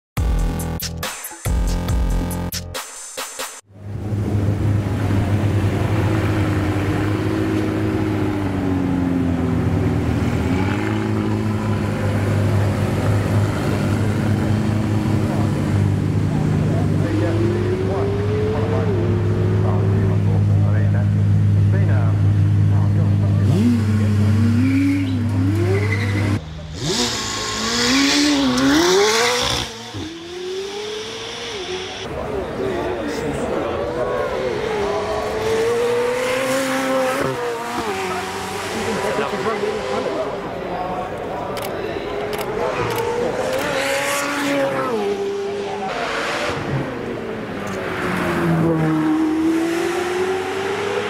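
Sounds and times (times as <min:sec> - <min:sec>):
sports car engine revving: 0:03.9 - 0:32.2, 0:33.7 - 0:51.0.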